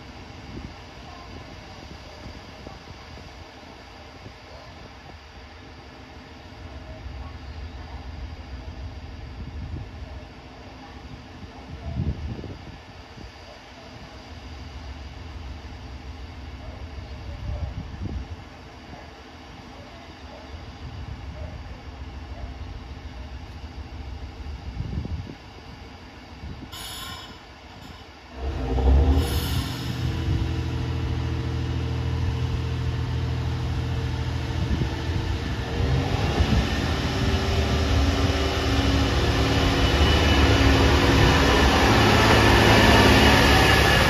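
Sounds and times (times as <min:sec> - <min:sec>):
diesel train engine running: 0:00.0 - 0:44.0.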